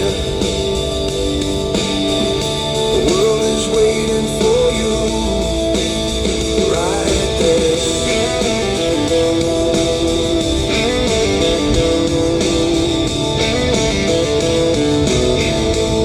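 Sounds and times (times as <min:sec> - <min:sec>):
electric guitar led band music: 0:00.0 - 0:16.0.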